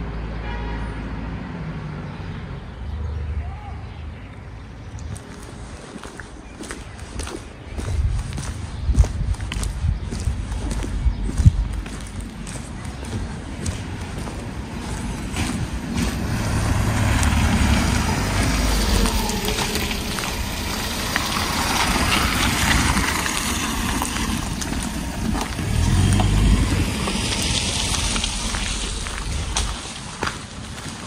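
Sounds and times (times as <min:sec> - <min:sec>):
road noise: 0:00.0 - 0:31.0
vehicles driving past: 0:00.0 - 0:31.0.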